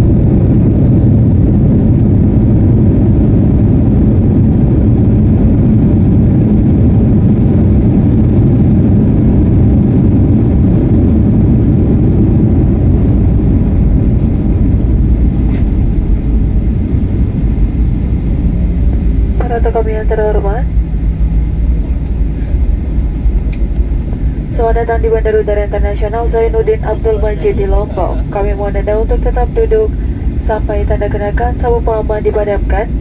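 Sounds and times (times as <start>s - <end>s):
jet cabin rumble on runway: 0.0s - 33.0s.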